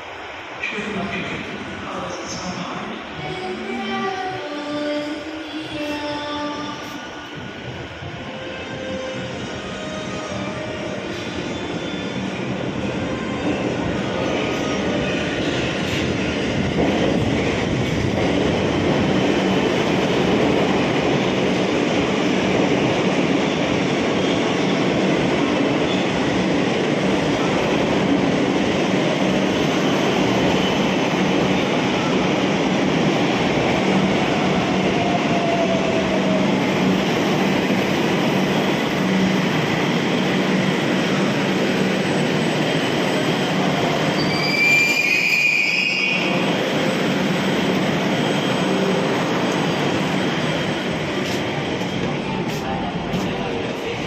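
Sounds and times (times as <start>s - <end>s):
metro train rumbling on rails: 0.0s - 54.0s.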